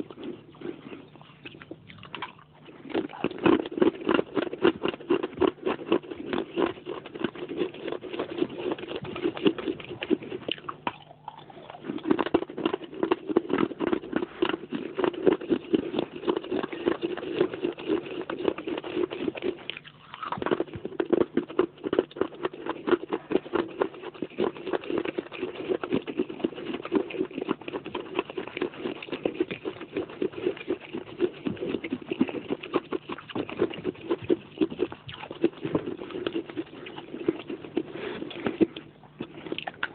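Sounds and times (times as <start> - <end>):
clay pieces being chewed: 0.0 - 39.9.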